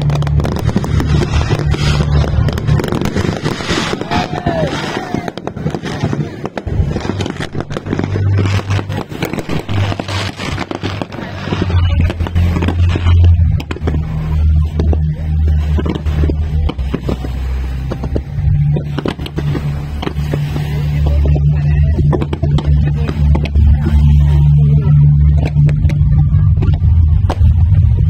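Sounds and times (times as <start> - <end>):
fireworks popping and crackling: 0.0 - 28.0
music with deep bass line: 0.0 - 28.0.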